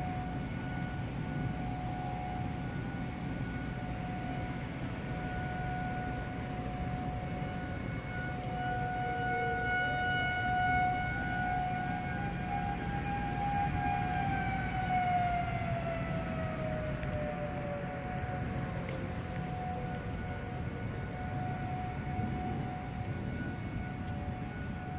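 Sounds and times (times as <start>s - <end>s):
tornado warning sirens wailing: 0.0s - 24.9s.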